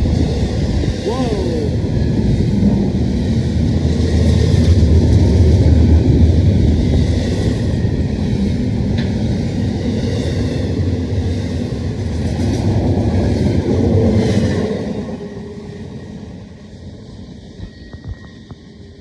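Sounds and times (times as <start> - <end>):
freight train rumbling past: 0.0 - 17.6.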